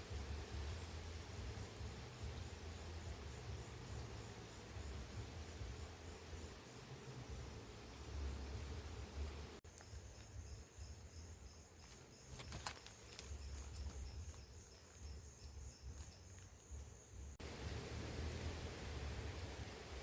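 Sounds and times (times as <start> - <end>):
low outdoor rumble: 0.0 - 9.6, 13.2 - 20.0
high-pitched insect tone: 0.0 - 20.0
pulsing insect chorus: 0.0 - 20.0.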